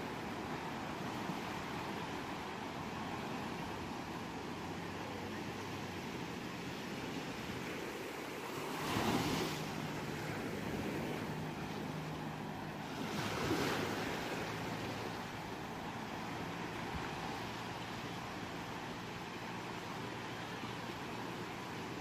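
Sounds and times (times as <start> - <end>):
ocean waves washing: 0.0 - 22.0
waves breaking: 0.0 - 22.0.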